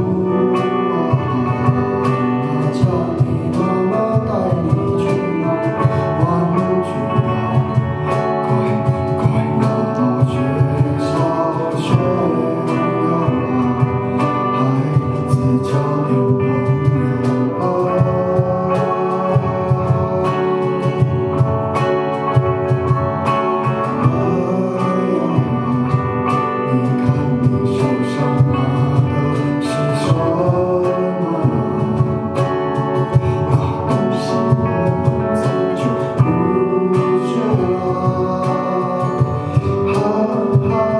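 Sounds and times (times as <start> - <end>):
live rock band playing: 0.0 - 40.9
person singing: 0.0 - 40.9.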